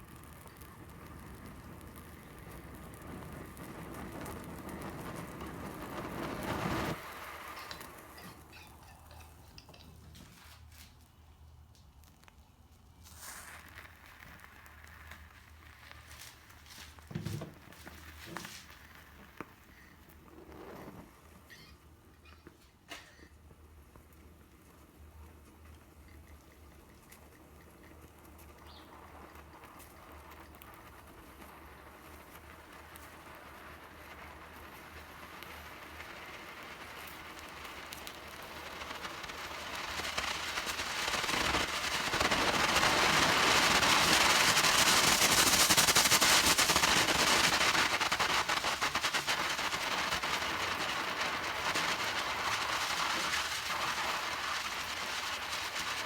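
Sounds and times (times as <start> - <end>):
rocket motor crackling hiss: 0.0 - 56.0.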